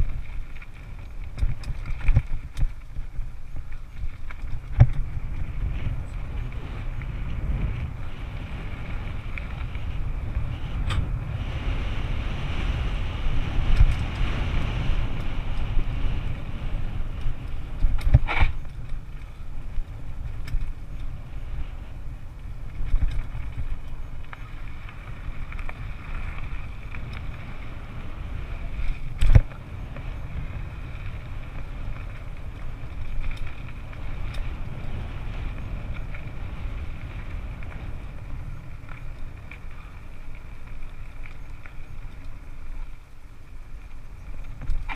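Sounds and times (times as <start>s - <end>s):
mountain bike rumbling and rattling: 0.0s - 44.9s
wind buffeting microphone: 0.0s - 44.9s.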